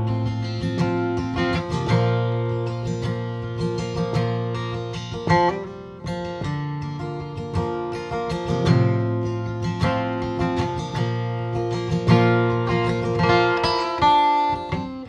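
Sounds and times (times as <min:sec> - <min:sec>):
acoustic guitar: 0:00.0 - 0:15.0
plucked bouzouki-like instrument: 0:00.0 - 0:15.0.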